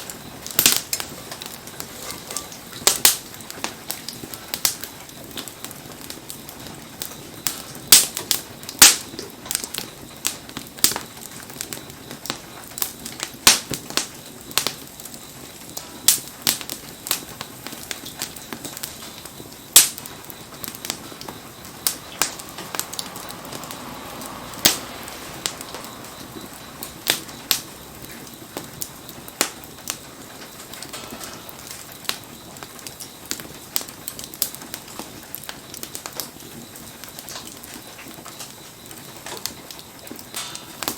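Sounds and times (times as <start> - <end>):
campfire crackling and popping: 0.0 - 40.9
falling rain hiss: 0.0 - 40.9.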